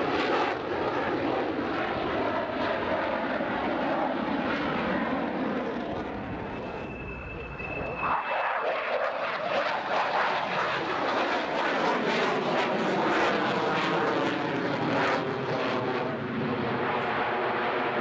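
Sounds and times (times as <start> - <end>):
airplane flying past: 3.5 - 18.0.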